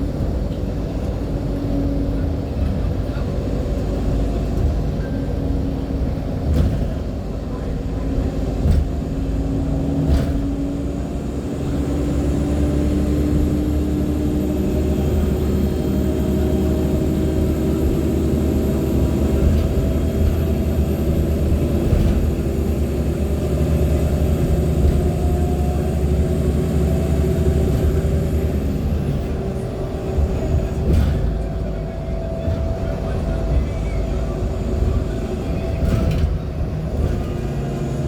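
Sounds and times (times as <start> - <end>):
bus diesel engine rumbling: 0.0 - 38.0.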